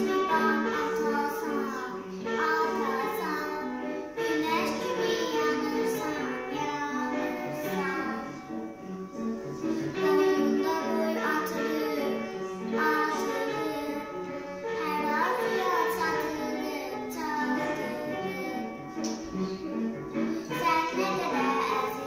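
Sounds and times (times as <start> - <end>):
girl singing: 0.0 - 22.0
musical accompaniment: 0.0 - 22.0.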